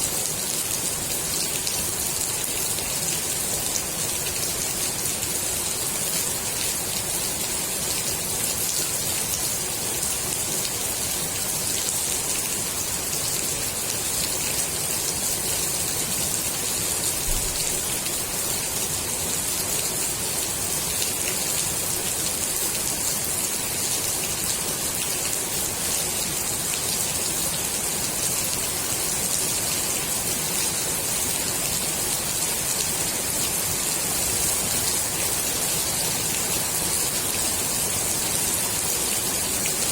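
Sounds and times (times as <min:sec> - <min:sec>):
rain falling on pool water: 0:00.0 - 0:39.9.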